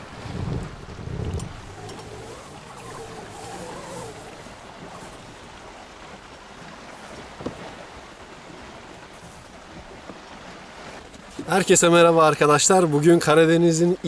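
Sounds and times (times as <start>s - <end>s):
sea waves: 0.0s - 14.0s
wind: 0.0s - 14.0s.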